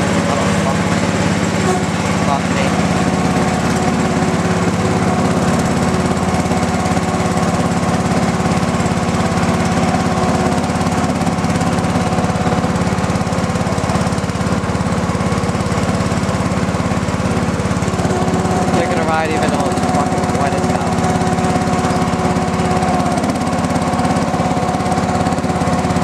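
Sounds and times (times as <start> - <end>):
lawn tractor engine running: 0.0 - 26.0.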